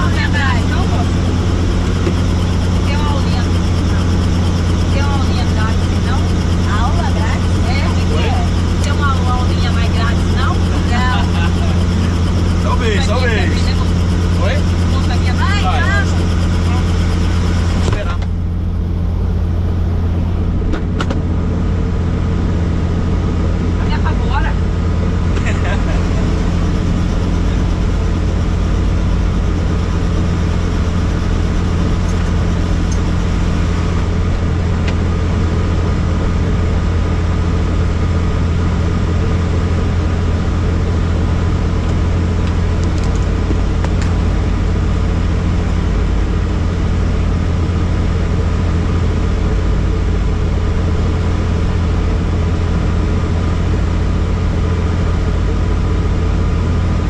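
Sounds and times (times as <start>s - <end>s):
helicopter turbine and rotor drone: 0.0s - 57.0s.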